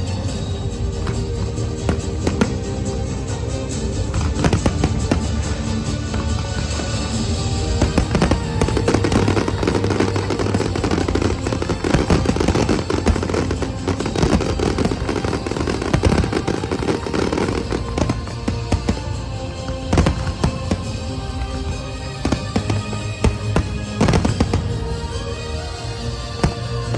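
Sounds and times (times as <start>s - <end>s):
fireworks bangs and crackles: 0.0s - 26.9s
loud music: 0.0s - 26.9s.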